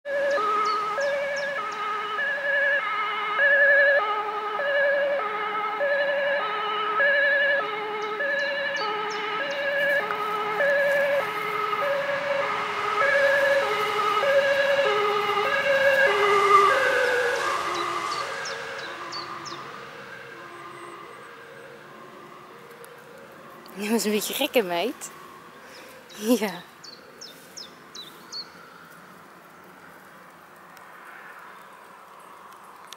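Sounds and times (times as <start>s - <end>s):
ambulance two-tone siren: 0.0s - 26.6s.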